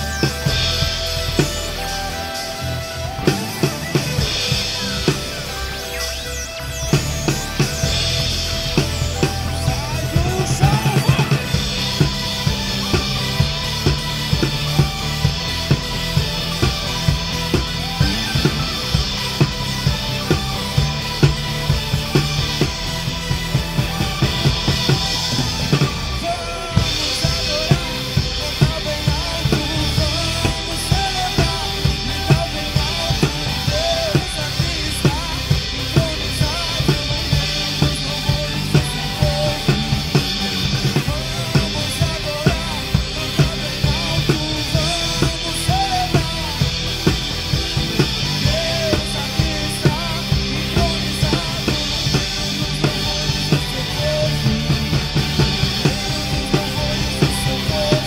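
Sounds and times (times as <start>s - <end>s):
drum kit beat: 0.0s - 58.0s
live band instrumental: 0.0s - 58.0s.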